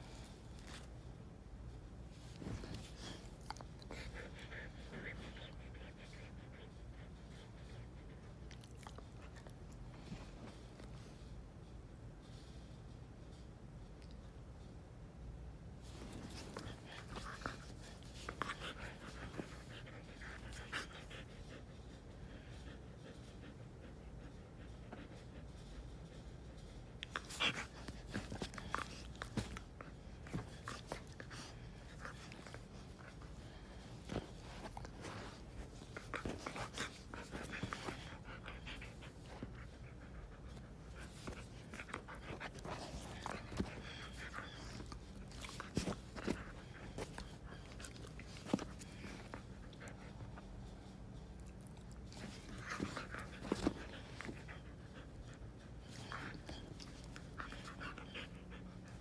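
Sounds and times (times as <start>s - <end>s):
dog panting: 2.8s - 9.5s, 16.1s - 59.0s.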